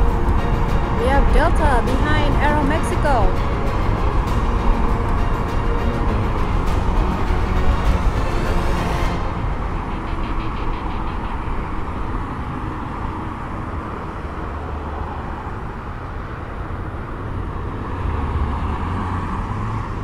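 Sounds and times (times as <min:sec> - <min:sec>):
jet engine rumble: 0:00.0 - 0:17.8.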